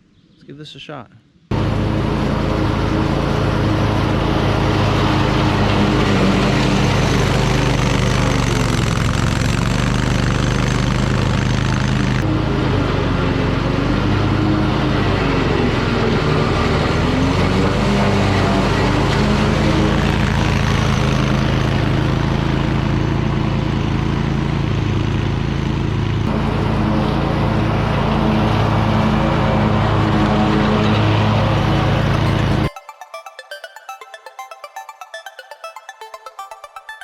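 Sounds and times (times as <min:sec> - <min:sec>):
mower engine running: 0:01.5 - 0:32.1.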